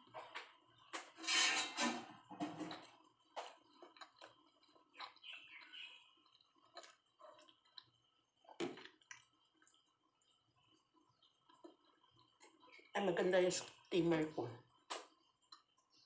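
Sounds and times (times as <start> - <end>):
faint chewing: 0.0 - 1.2, 2.1 - 13.9, 14.6 - 16.0.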